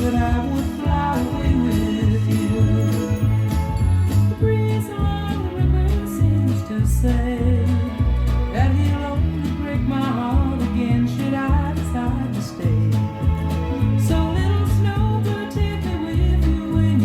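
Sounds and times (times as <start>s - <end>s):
pulsing bass line: 0.0s - 17.0s
song with singing and guitar: 0.0s - 17.0s.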